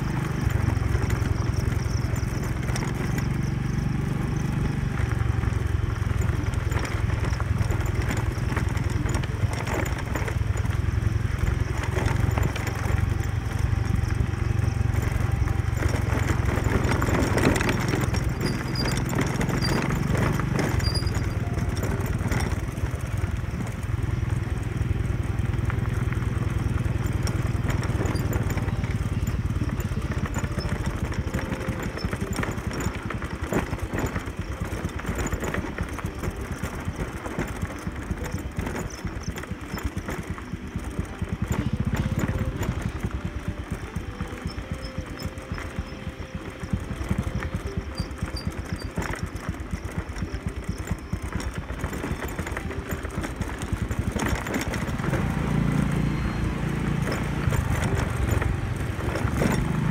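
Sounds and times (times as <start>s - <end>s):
knocks and rattles from bumps: 0.0s - 59.9s
motorcycle engine running: 0.0s - 59.9s.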